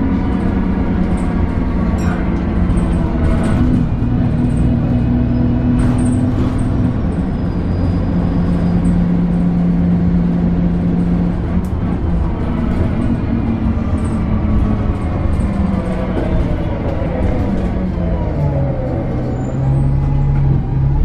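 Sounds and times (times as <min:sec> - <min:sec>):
bus engine droning whine: 0:00.0 - 0:21.0.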